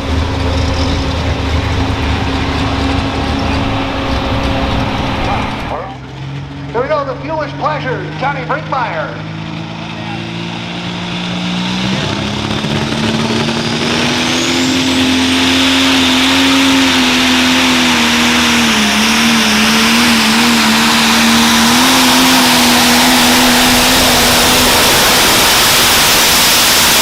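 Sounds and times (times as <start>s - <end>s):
high turbo whine: 0.0s - 27.0s
tractor engine at full throttle: 0.0s - 27.0s.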